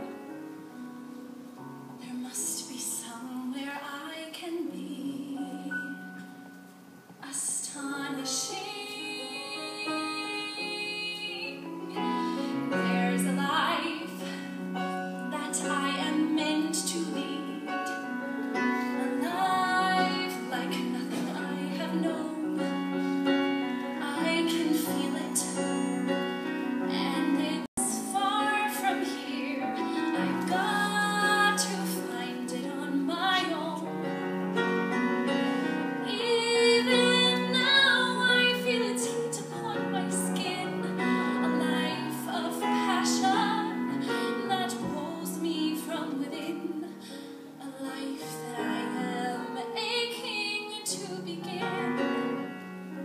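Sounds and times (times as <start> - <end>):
piano accompaniment: 0.0 - 53.0
woman singing a ballad: 2.0 - 6.4, 7.2 - 34.6, 35.2 - 53.0.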